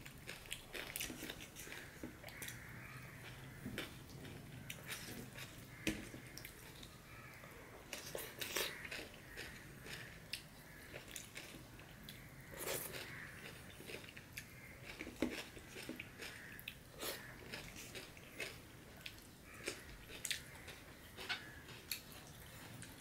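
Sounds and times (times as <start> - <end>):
person chewing wetly: 0.0 - 7.0, 7.9 - 23.0.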